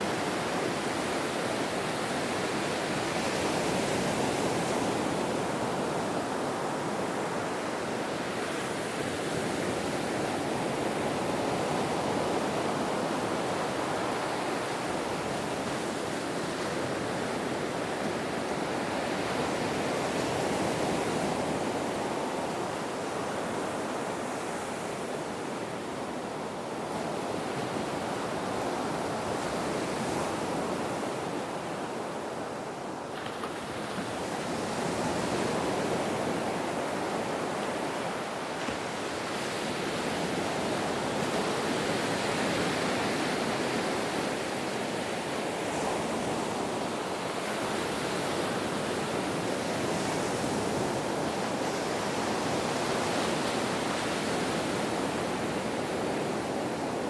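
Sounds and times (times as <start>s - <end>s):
ocean surf washing: 0.0s - 57.0s.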